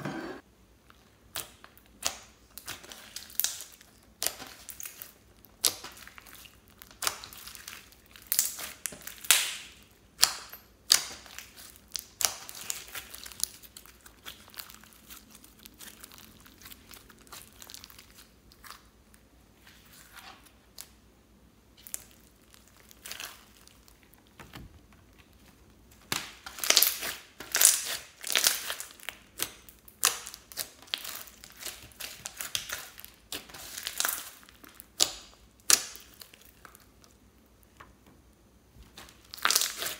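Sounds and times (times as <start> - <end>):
slime crackling and popping: 1.3 - 19.2, 21.8 - 24.4, 25.1 - 37.9, 38.8 - 39.9.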